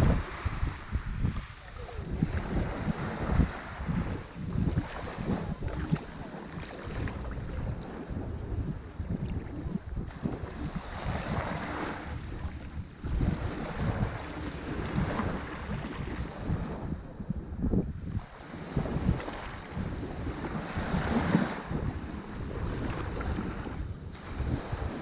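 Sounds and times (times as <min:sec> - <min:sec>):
ocean waves breaking: 0:00.0 - 0:25.0
wind buffeting microphone: 0:00.0 - 0:25.0.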